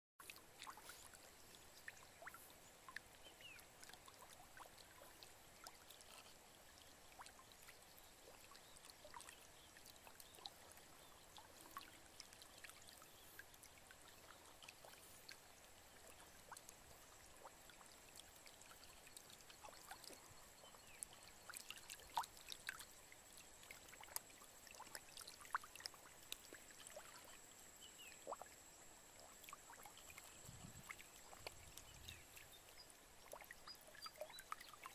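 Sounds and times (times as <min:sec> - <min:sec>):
fish splashing in shallow water: 0:00.2 - 0:34.9.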